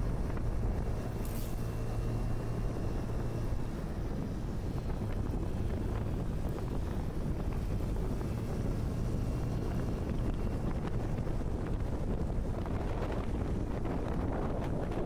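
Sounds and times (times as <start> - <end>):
road and engine drone: 0.0 - 15.0
wind buffeting microphone: 0.0 - 15.0.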